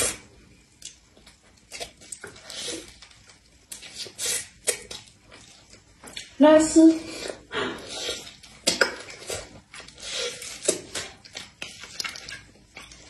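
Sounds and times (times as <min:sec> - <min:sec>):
chewing soft food: 0:00.0 - 0:06.4, 0:07.2 - 0:13.0.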